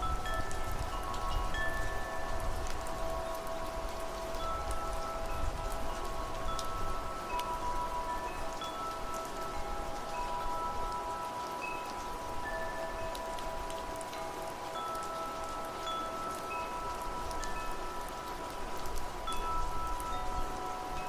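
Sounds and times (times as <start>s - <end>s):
rain: 0.0s - 21.0s
wind chimes ringing: 0.0s - 21.0s.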